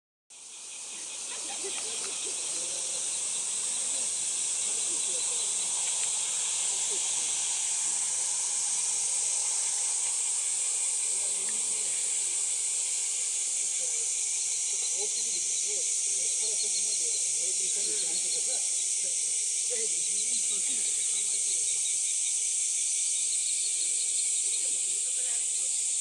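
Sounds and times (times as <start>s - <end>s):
high-pitched hiss: 0.3s - 26.0s.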